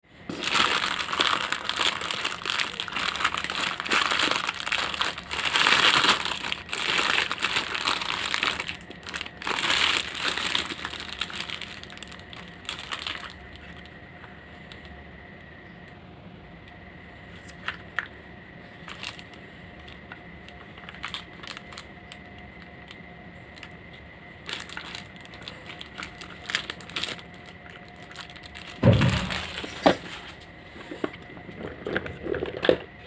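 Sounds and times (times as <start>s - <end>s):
plastic packaging crinkling: 0.3s - 14.0s, 18.7s - 32.8s.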